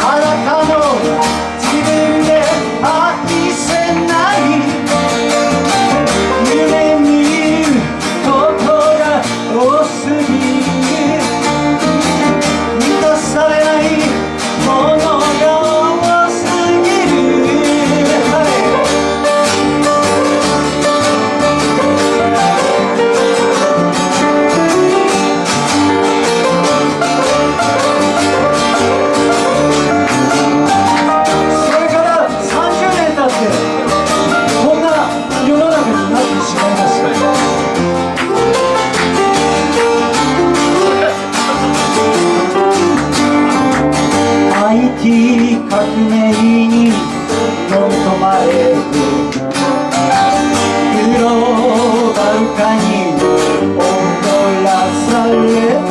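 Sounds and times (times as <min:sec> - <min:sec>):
plucked guitar music: 0:00.0 - 0:55.9.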